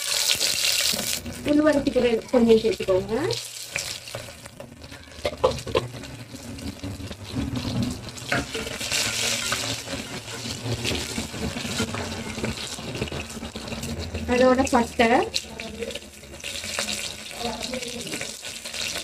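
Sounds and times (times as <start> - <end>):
shallots sizzling in oil: 0.0 - 19.0.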